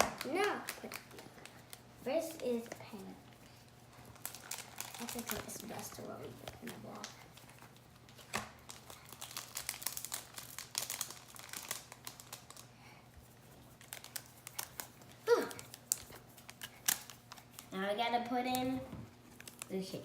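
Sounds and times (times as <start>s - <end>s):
crinkling handling noises: 0.0s - 20.0s.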